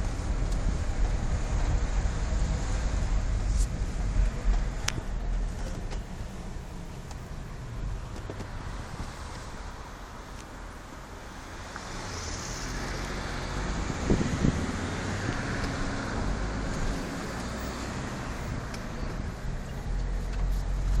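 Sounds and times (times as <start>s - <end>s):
van engine and tyre noise: 0.0s - 21.0s.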